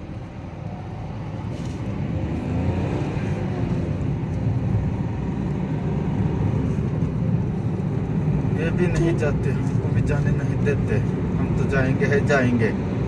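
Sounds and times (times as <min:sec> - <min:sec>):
car engine from inside cabin: 0:00.0 - 0:13.0
road noise: 0:00.0 - 0:13.0.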